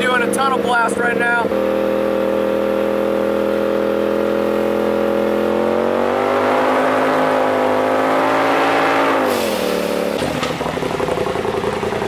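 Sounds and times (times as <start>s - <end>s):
turbocharged engine accelerating: 0.0s - 12.0s.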